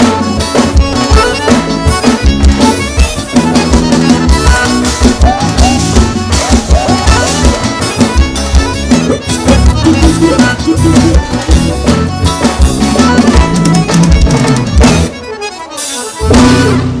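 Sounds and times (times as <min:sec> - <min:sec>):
accordion: 0:00.0 - 0:17.0
bass: 0:00.0 - 0:17.0
drum kit: 0:00.0 - 0:17.0.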